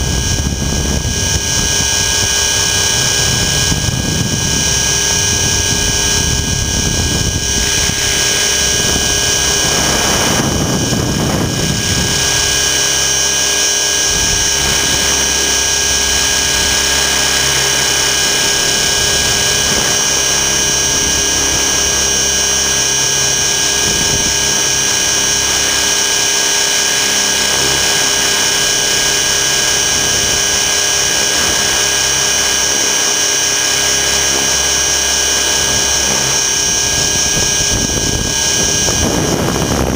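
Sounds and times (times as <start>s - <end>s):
low rumble: 0.0s - 26.4s, 27.0s - 39.9s
high motor and gear whine: 0.0s - 39.9s
rotor hum: 0.0s - 39.9s.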